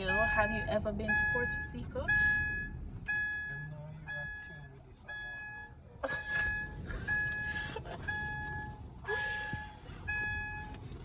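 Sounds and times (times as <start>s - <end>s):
vehicle warning beeper: 0.0s - 11.0s.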